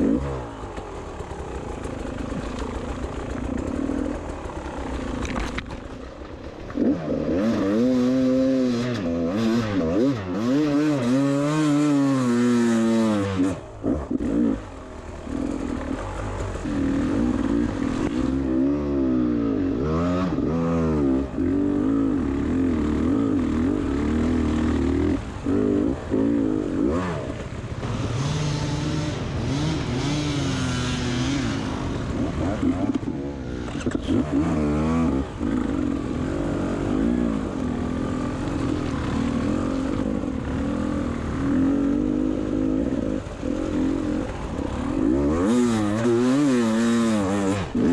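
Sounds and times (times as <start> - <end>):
motorbike engine revving: 0.0 - 47.9.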